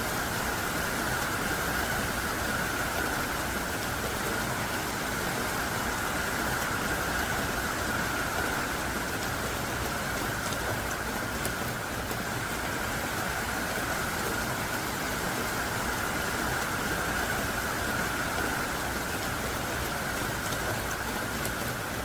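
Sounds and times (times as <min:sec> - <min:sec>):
heavy pouring rain: 0:00.0 - 0:22.0
faint raindrop ticks: 0:00.3 - 0:22.0.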